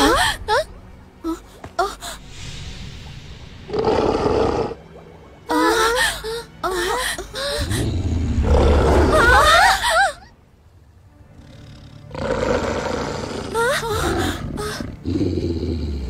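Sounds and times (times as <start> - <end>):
dramatic background music: 0.0 - 16.0.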